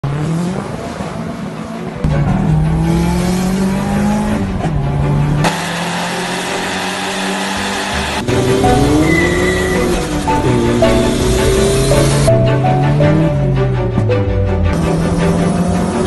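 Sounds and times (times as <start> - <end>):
turbocharged car engine revving: 0.0 - 14.0, 14.6 - 16.0.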